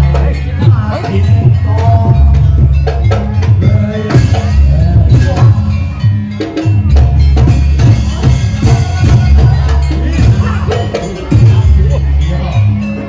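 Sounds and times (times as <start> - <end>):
drums: 0.0 - 13.0
gongs: 0.0 - 13.0
metal knocking percussion: 0.0 - 13.0.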